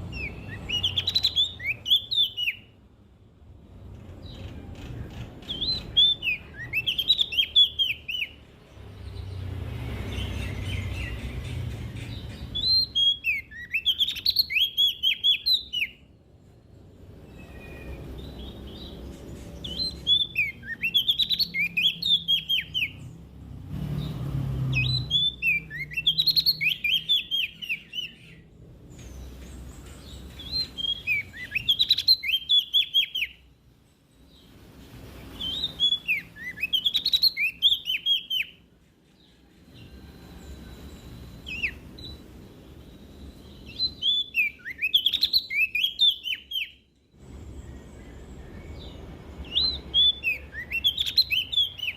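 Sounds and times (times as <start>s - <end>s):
songbird chirping: 0.0s - 51.9s.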